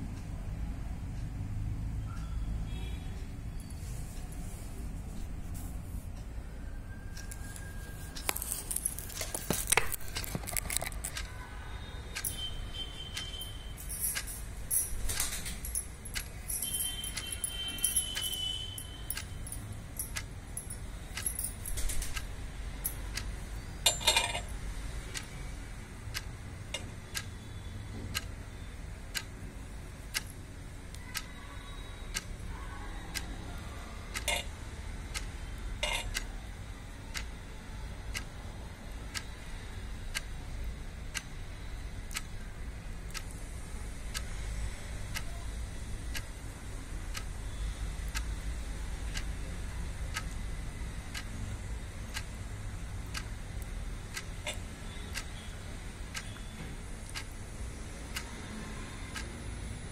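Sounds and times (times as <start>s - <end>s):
steady regular ticking: 0.0s - 59.9s.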